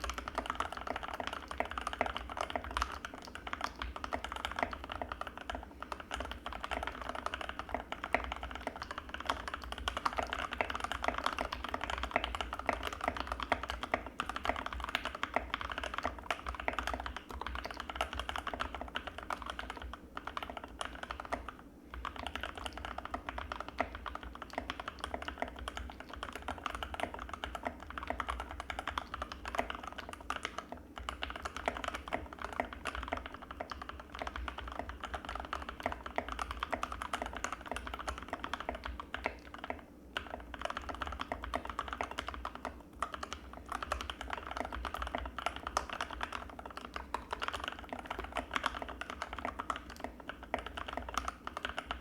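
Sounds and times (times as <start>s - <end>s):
mechanical keyboard typing: 0.0s - 52.0s.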